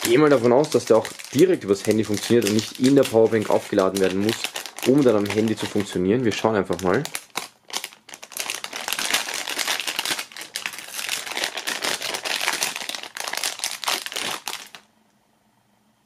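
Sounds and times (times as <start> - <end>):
plastic pouch crinkling: 0.0 - 14.9.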